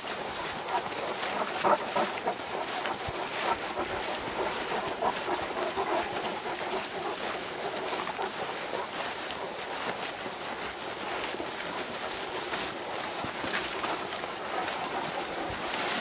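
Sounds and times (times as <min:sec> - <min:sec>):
footsteps and paws in long grass: 0:00.0 - 0:16.0.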